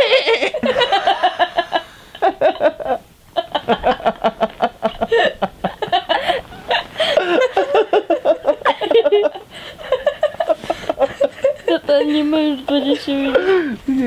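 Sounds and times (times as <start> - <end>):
people laughing hard: 0.0 - 11.9.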